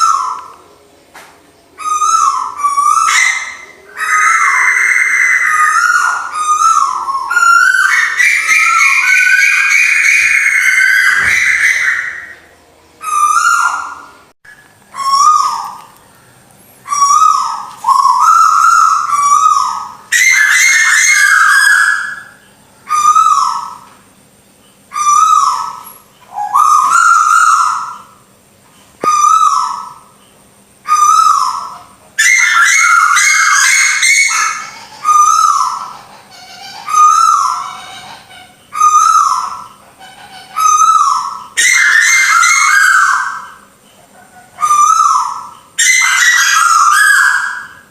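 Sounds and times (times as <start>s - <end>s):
owl calls whistled phrases: 0.0s - 0.8s, 1.8s - 16.0s, 16.8s - 24.0s, 24.9s - 28.3s, 29.0s - 47.9s.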